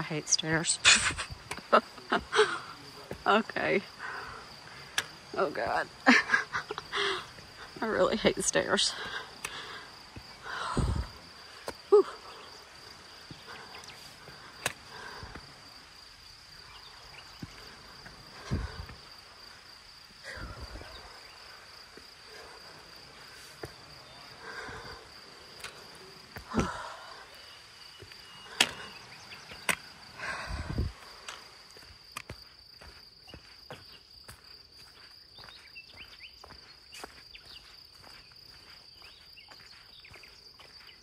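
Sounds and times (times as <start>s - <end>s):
insect drone: 0.0s - 41.0s
footsteps on dirt trail: 1.2s - 41.0s.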